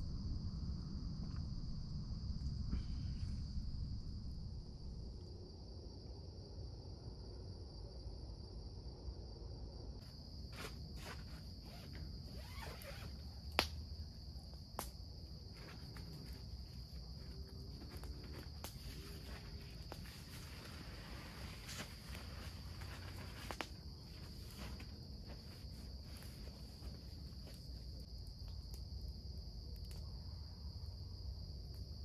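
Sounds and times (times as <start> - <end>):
night insects chorus: 0.0 - 32.0.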